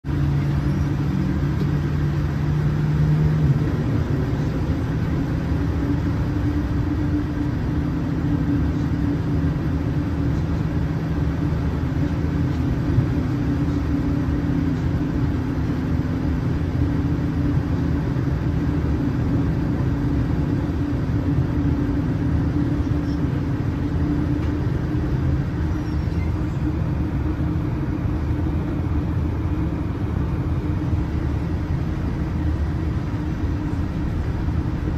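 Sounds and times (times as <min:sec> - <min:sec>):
jet engines drone in cabin: 0:00.0 - 0:34.9.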